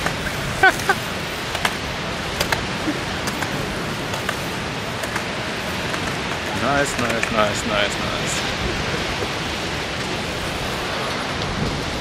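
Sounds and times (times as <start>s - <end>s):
wind hissing on microphone: 0.0s - 12.0s.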